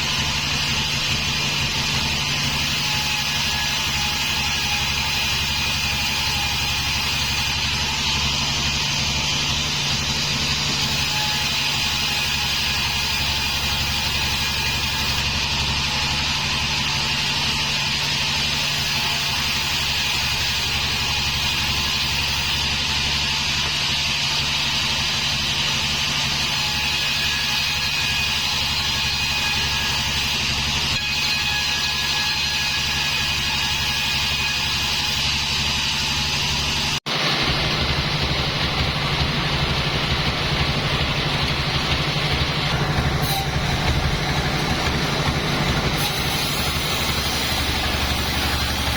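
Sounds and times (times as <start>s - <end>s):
band sawmill droning: 0.0s - 48.9s.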